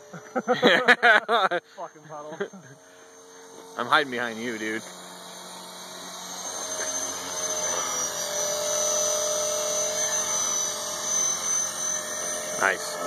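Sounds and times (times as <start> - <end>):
rc helicopter motor and rotors whine: 0.0 - 13.0.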